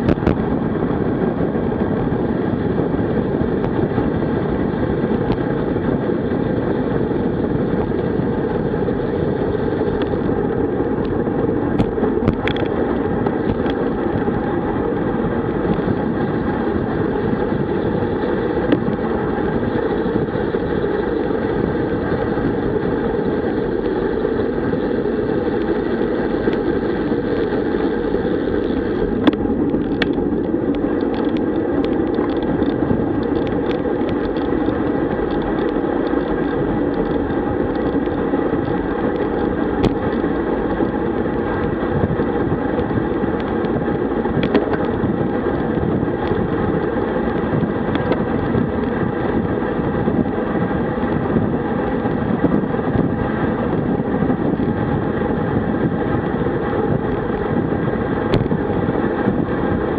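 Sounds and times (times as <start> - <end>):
bike tyres on asphalt: 0.0 - 59.9
wind rushing on microphone: 0.0 - 59.9.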